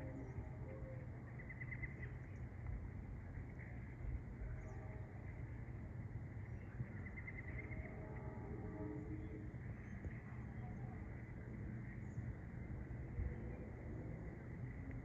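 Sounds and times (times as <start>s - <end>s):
small birds chirping: 0.0s - 8.2s, 8.9s - 15.0s
low steady rumble: 0.0s - 15.0s.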